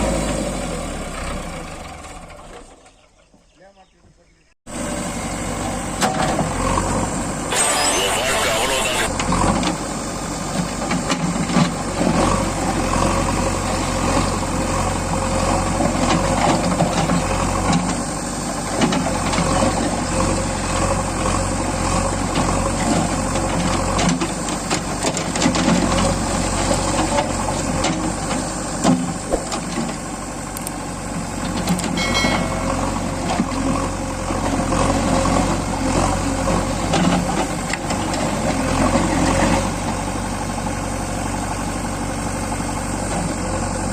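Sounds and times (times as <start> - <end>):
diesel engine running: 4.7 - 43.9.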